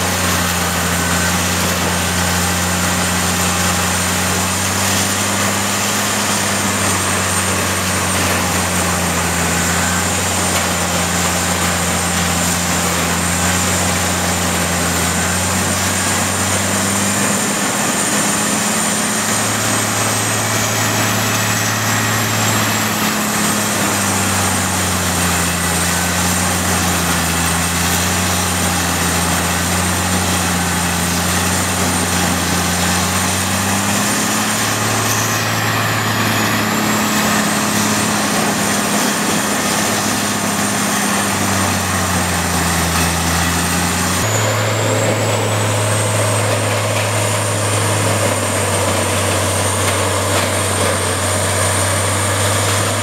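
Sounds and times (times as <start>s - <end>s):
wood grinder running under load: 0.0s - 53.0s.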